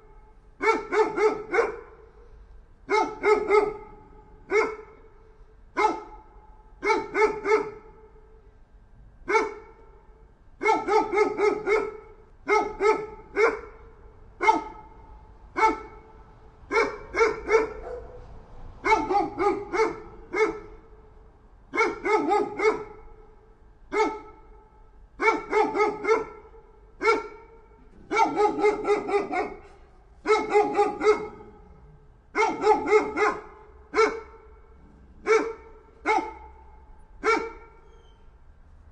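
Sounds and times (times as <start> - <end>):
dog barking: 0.6 - 8.3, 9.2 - 9.9, 10.6 - 21.1, 21.7 - 38.1.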